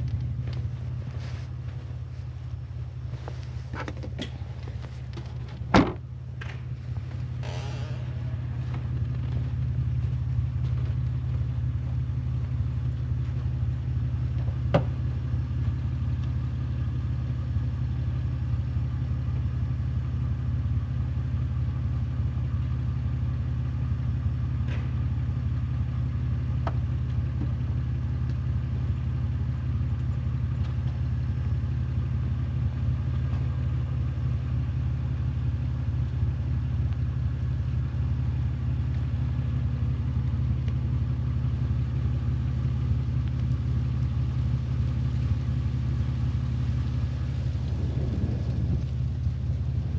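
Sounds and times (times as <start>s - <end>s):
vehicle engine idling hum: 0.0s - 49.9s.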